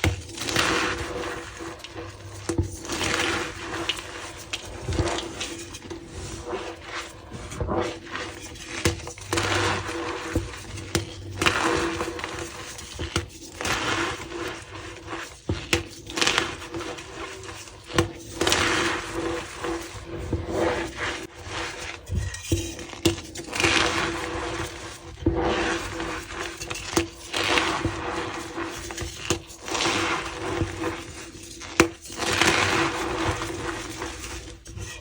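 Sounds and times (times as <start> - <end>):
chalk crunching and crumbling: 0.0 - 35.0.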